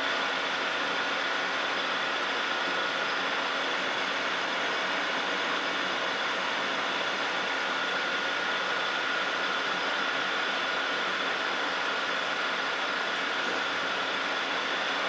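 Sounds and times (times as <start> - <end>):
lathe hum and whine: 0.0 - 15.0.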